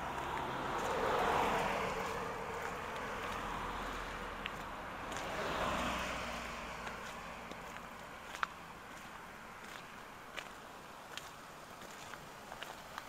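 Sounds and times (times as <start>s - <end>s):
cars passing on slushy road: 0.0s - 13.0s.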